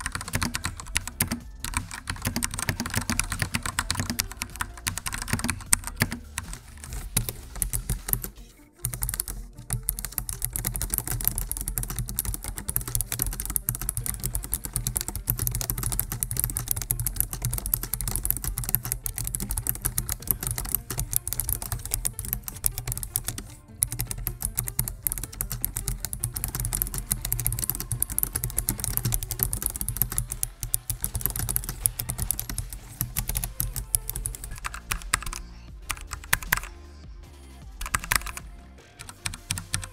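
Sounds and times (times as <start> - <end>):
rapid keyboard typing: 0.0 - 36.7, 37.8 - 39.9.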